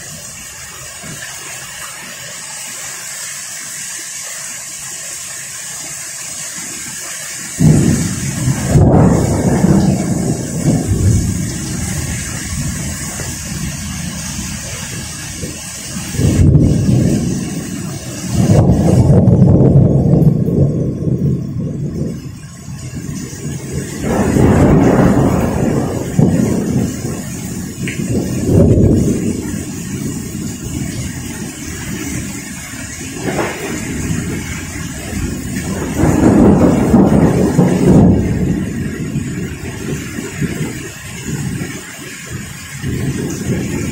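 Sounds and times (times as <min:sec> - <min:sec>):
heavy rain hissing: 0:00.0 - 0:43.9
thunder rumbling: 0:07.5 - 0:43.9.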